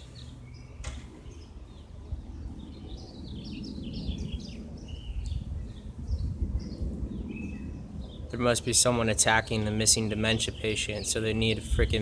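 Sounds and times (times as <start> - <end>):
distant helicopter rumble: 0.0 - 12.0
songbirds chirping: 0.0 - 12.0.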